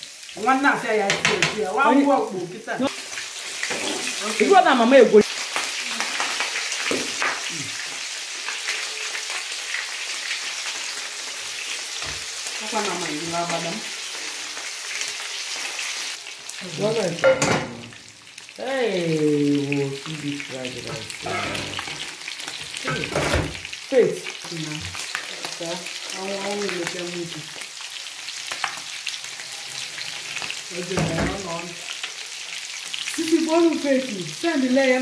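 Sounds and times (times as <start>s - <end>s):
oil sizzling in a frying pan: 0.0s - 35.0s.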